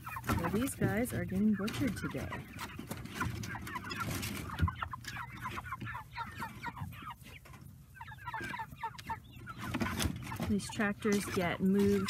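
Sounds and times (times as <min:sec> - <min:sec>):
flock of chickens calling: 0:00.0 - 0:12.0.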